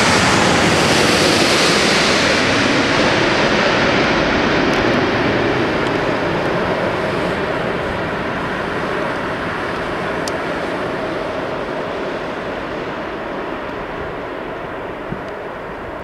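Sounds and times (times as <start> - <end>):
jet airliner roar: 0.0 - 16.0.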